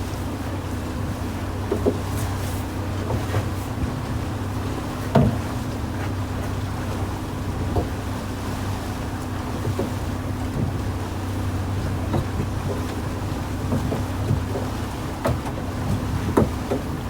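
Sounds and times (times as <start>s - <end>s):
boat engine droning: 0.0s - 17.0s
water noise: 0.0s - 17.0s
wind: 0.0s - 17.0s.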